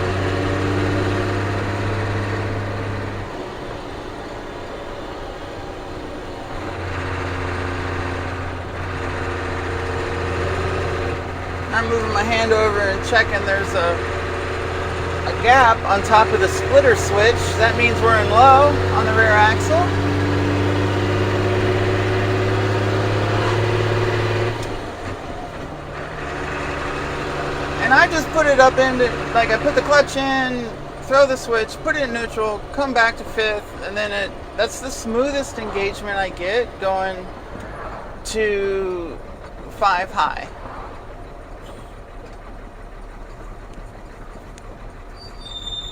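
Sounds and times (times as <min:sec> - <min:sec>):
truck diesel engine droning: 0:00.0 - 0:45.9.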